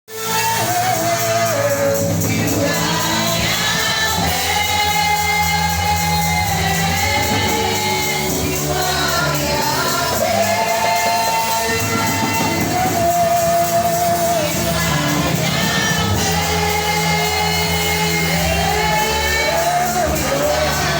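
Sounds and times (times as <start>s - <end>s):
gospel singing with instrumental backing: 0.1s - 20.9s.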